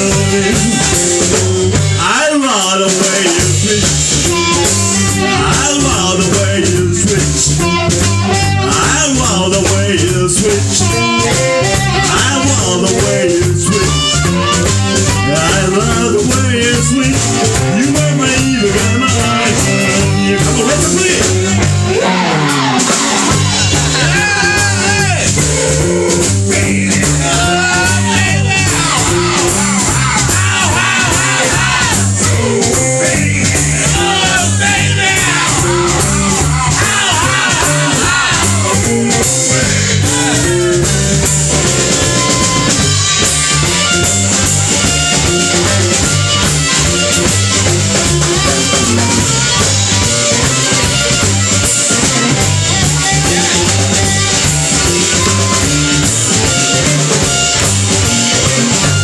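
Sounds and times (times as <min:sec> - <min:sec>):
blues harmonica wailing: 0:00.0 - 0:59.0
electric blues band playing: 0:00.0 - 0:59.0.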